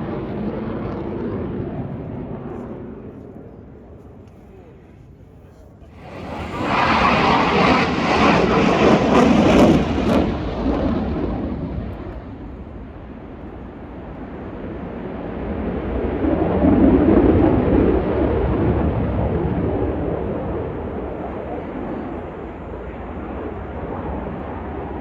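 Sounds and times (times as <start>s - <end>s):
planes flying past: 0.0s - 25.0s.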